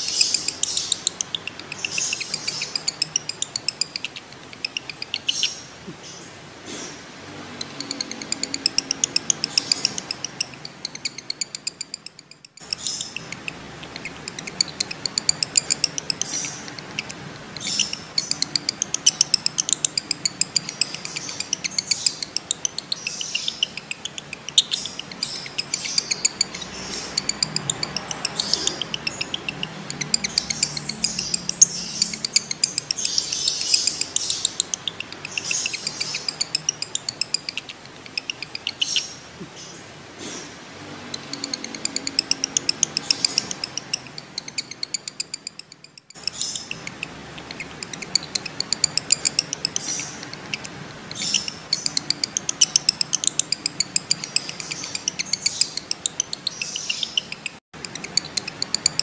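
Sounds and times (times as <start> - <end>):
lovebird chattering high chirps: 0.0 - 40.4, 41.0 - 59.0.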